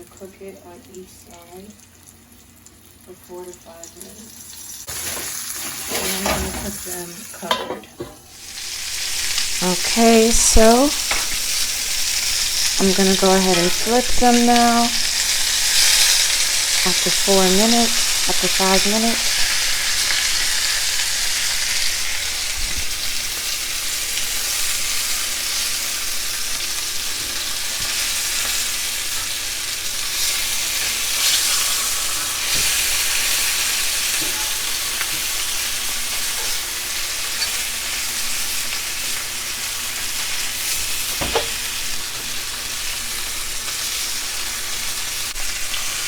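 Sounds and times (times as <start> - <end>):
chicken sizzling in oil: 0.0 - 7.6, 8.3 - 46.0.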